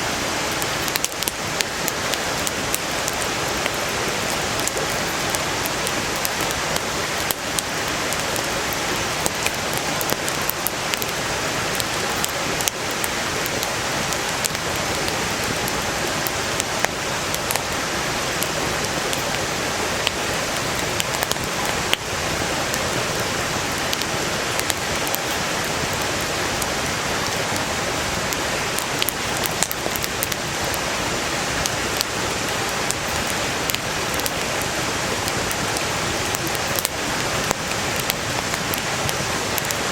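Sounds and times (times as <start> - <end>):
burning firewood crackles: 0.0 - 39.9
stream rushing: 0.0 - 39.9.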